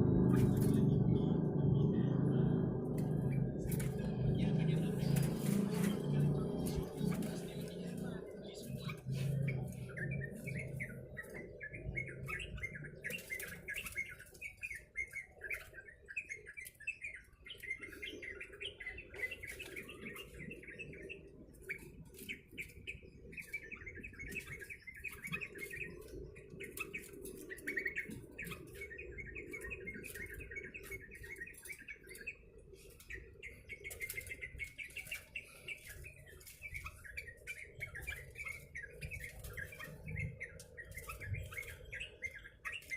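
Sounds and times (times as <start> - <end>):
bird chattering with rapid chirps: 0.0 - 42.9.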